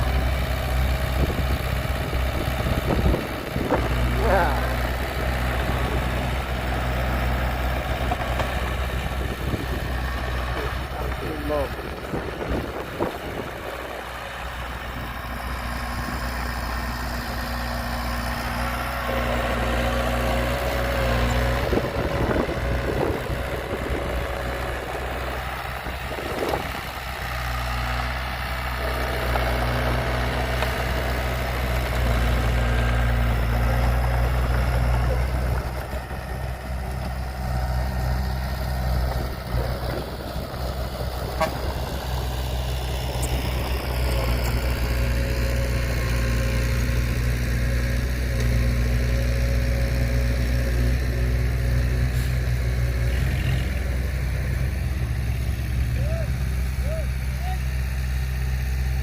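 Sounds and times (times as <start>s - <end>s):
heavy machinery diesel engine drone: 0.0s - 59.0s.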